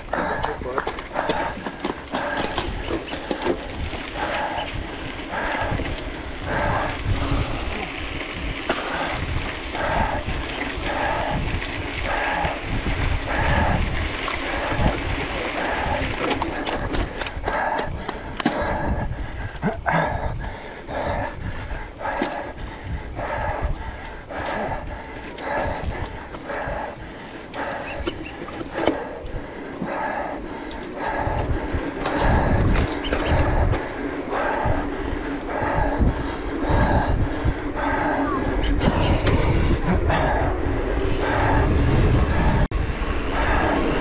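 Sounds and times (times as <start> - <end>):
bike rattling over bumps: 0.0 - 44.0
heavy rhythmic breathing: 0.0 - 44.0
wind rumble on camera: 0.0 - 44.0.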